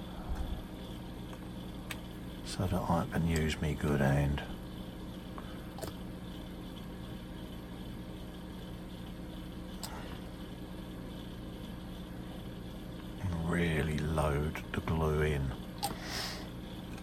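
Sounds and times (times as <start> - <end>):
low hum with faint hiss: 0.0 - 17.0.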